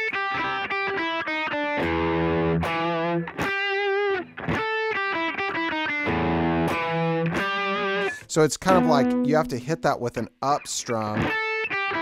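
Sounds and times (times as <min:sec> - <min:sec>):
electric guitar riff: 0:00.0 - 0:10.2, 0:10.8 - 0:12.0.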